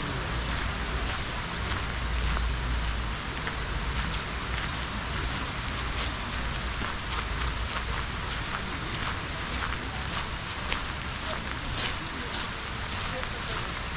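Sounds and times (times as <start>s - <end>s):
low continuous rumble: 0.0s - 13.9s
rain-like pattering: 0.0s - 13.9s.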